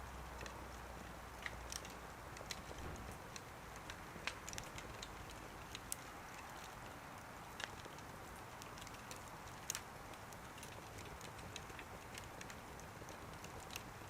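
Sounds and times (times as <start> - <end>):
wood fire crackling: 0.0 - 14.0
sharp pops of fire: 0.4 - 14.0.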